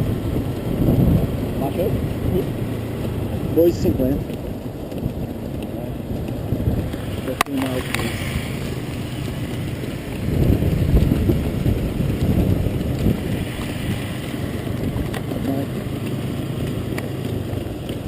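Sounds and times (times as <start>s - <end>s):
wind on microphone: 0.0s - 15.8s
motorcycle engine running: 0.0s - 18.0s.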